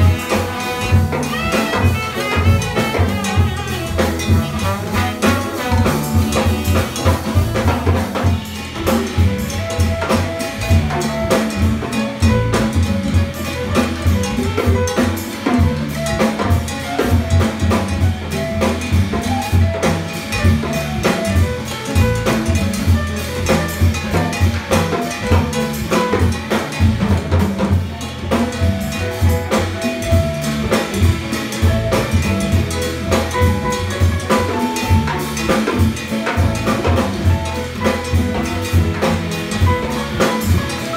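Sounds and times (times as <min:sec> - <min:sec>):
drum kit: 0:00.0 - 0:40.9
hand percussion: 0:00.0 - 0:40.9
jazz band playing: 0:00.0 - 0:40.9.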